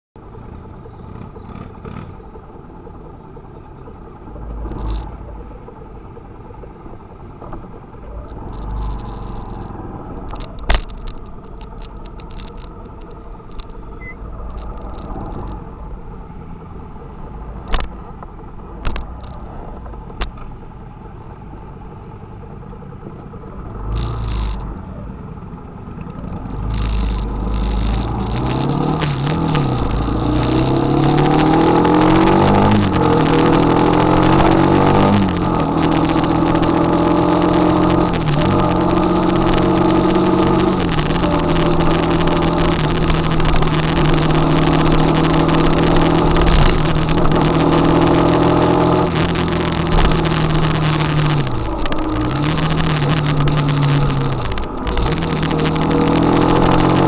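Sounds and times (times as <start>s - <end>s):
motorcycle engines rumbling: 0.2s - 57.0s
traffic: 0.2s - 57.0s.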